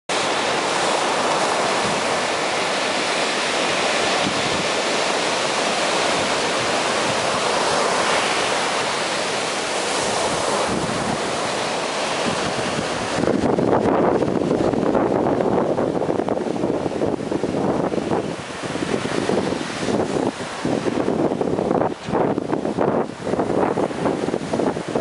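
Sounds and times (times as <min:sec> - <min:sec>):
waves breaking on a beach: 0:00.1 - 0:25.0.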